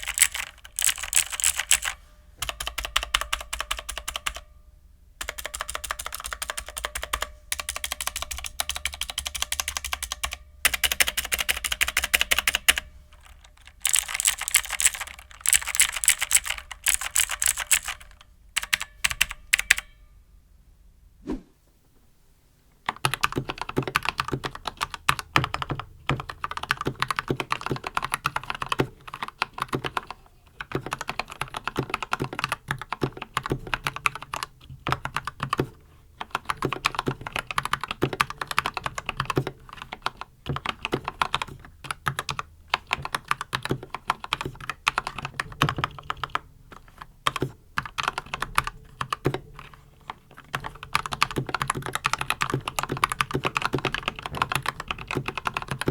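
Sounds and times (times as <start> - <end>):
mechanical keyboard typing: 0.0 - 4.5, 5.2 - 20.0, 22.9 - 55.9.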